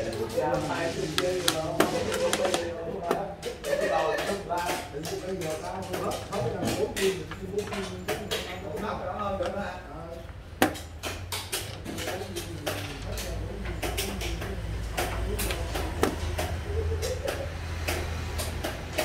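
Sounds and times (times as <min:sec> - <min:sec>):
faint background voices: 0:00.0 - 0:10.4, 0:11.5 - 0:19.0.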